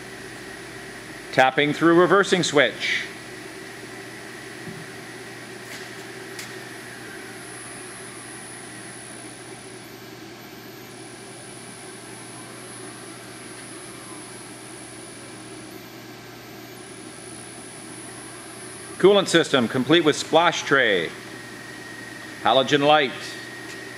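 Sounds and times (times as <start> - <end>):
high inverter whine: 0.0 - 23.9
milling machine hum: 0.0 - 23.9.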